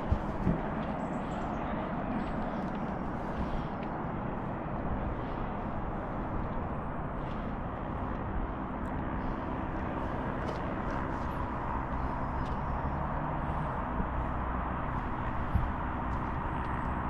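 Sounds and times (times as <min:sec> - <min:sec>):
jet airliner roar: 0:00.0 - 0:17.0.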